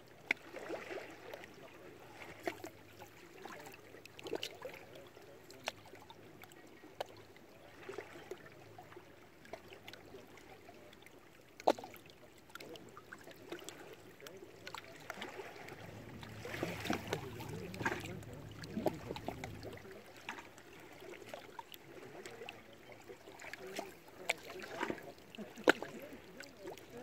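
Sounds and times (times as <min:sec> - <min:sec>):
waves lapping against rocks: 0:00.0 - 0:27.0.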